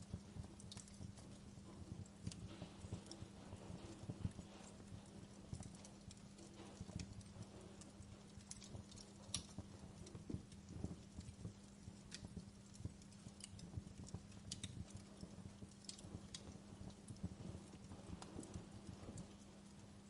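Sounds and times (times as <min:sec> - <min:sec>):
faint low hum: 0:00.0 - 0:20.0
wood fire crackling: 0:00.0 - 0:20.0.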